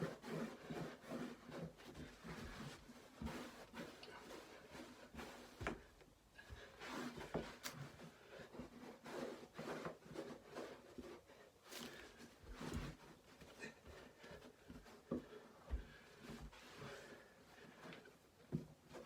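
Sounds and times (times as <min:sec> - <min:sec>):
faint knocks taps and shuffles: 0:00.2 - 0:19.0.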